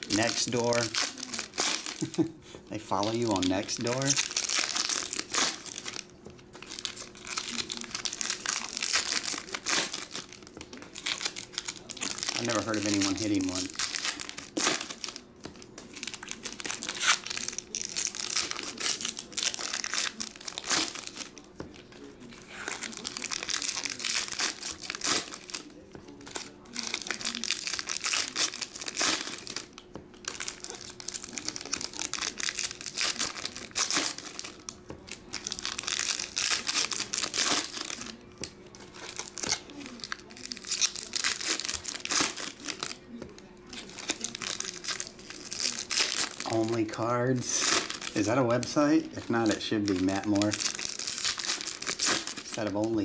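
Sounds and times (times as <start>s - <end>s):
wrappers torn and crinkled: 0.0s - 53.0s.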